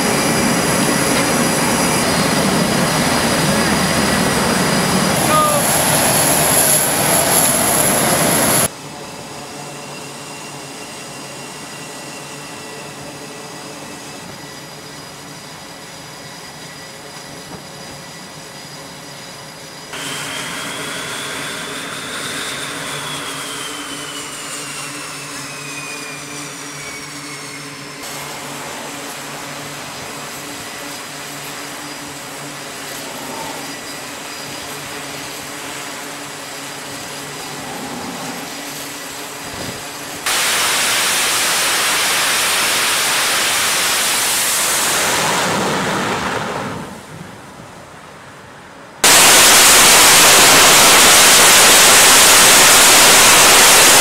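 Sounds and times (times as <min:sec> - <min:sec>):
jet engine with turbine whine: 0:00.0 - 0:54.0.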